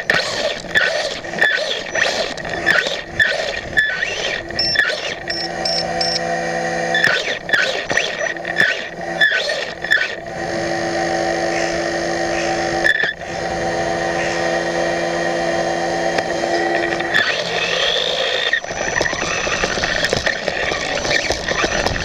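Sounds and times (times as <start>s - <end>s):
toy motorbike motor whining: 0.0s - 22.0s.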